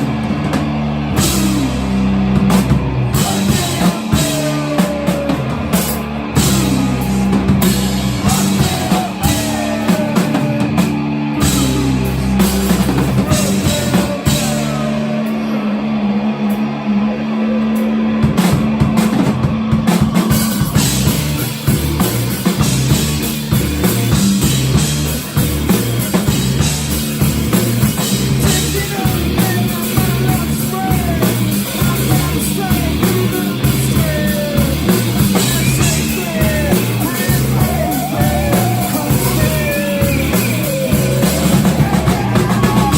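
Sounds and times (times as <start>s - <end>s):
heavy bass notes: 0.0s - 42.9s
live rock band playing: 0.0s - 42.9s.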